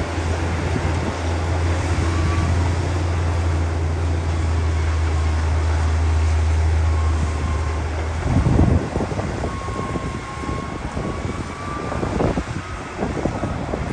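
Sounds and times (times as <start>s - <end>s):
heavy diesel engine humming: 0.0s - 13.9s
rough crackling rumble: 0.0s - 13.9s.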